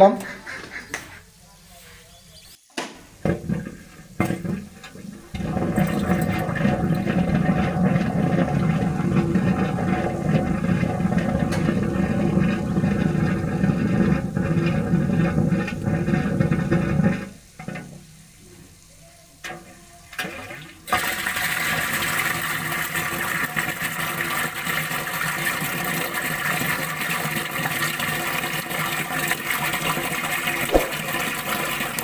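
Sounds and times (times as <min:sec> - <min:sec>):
water gushing into a tank: 0:03.2 - 0:17.4, 0:20.2 - 0:32.0.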